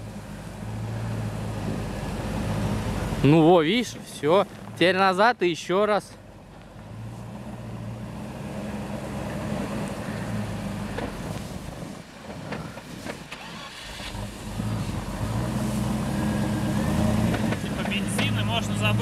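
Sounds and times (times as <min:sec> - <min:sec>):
truck engine running at low revs: 0:00.0 - 0:19.0.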